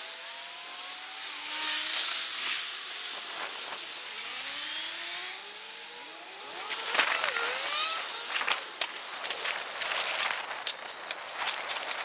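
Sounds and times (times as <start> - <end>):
sped-up traffic whooshes: 0.0 - 12.0.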